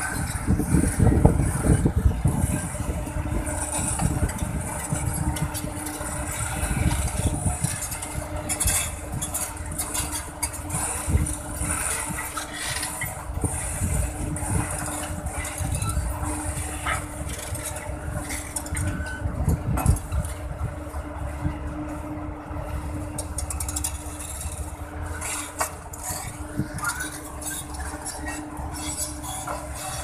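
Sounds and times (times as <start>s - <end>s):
diesel engine humming: 0.0s - 30.0s.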